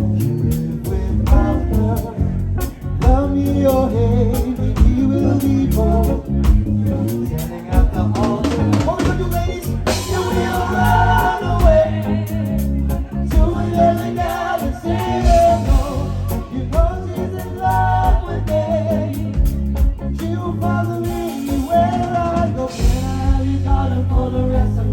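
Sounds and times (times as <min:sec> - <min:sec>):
bass: 0:00.0 - 0:24.9
drums: 0:00.0 - 0:24.9
guitar: 0:00.0 - 0:24.9
keyboard: 0:00.0 - 0:24.9
person singing: 0:00.0 - 0:24.9.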